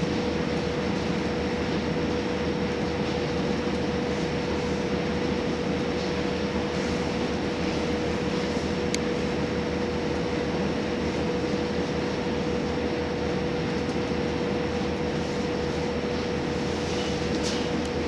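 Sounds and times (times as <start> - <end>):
railcar running rumble: 0.0 - 18.0.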